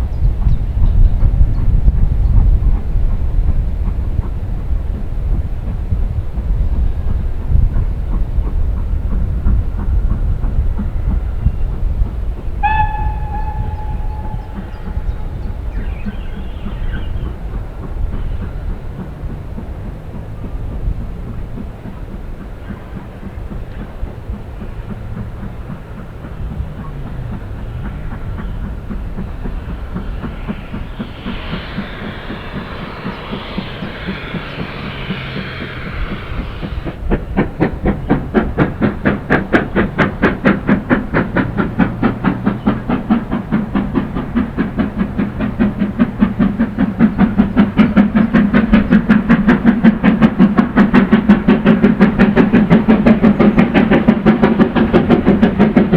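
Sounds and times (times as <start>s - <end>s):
steam hissing: 0.0s - 55.9s
steam locomotive exhaust beats: 0.0s - 55.9s.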